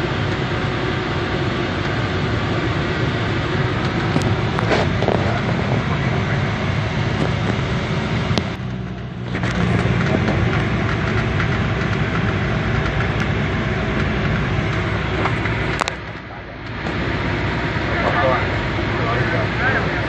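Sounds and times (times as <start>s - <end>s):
propeller aircraft engine: 0.0s - 20.0s.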